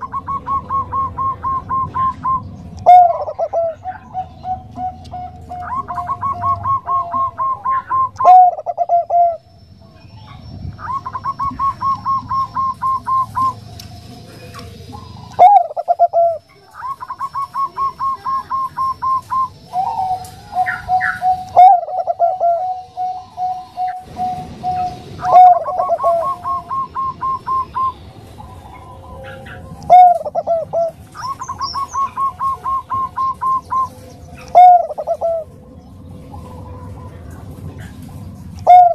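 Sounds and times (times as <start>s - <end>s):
dove cooing: 0.0s - 9.5s, 10.8s - 38.9s.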